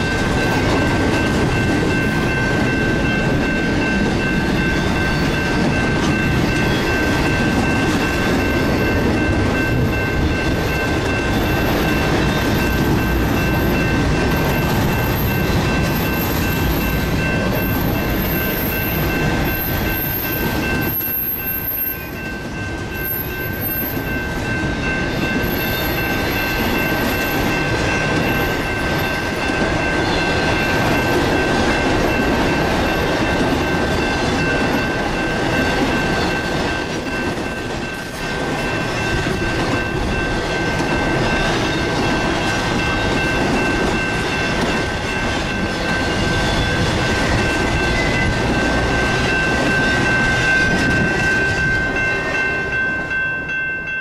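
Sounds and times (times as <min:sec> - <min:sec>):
freight train cars rumbling: 0:00.0 - 0:54.0.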